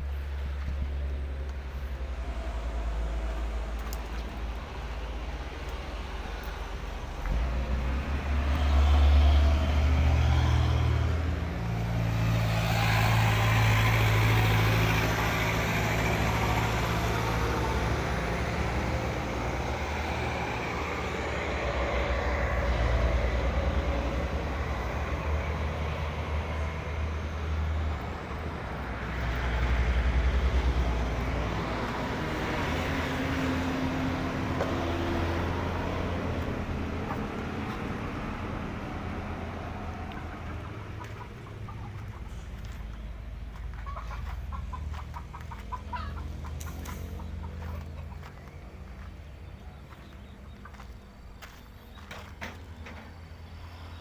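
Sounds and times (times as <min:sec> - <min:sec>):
heavy truck engines running: 0:00.0 - 0:54.0.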